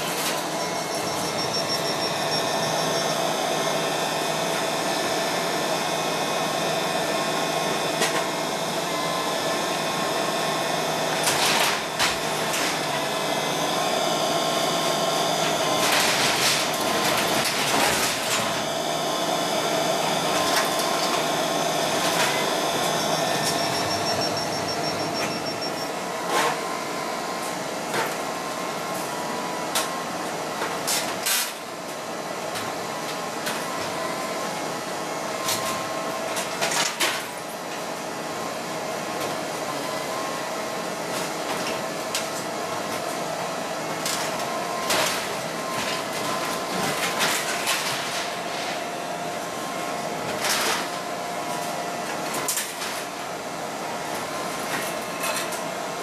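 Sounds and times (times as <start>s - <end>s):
excavator engine and hydraulics drone: 0.0s - 56.0s.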